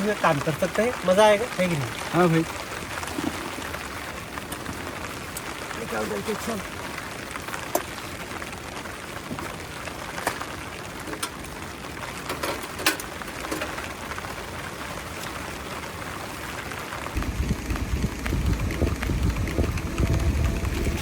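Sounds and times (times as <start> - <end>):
heavy rain on a tent: 0.0 - 21.0.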